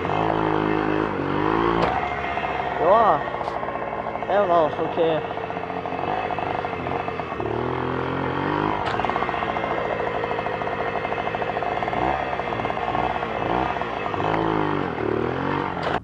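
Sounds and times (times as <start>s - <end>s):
moped engine revving: 0.0s - 16.0s.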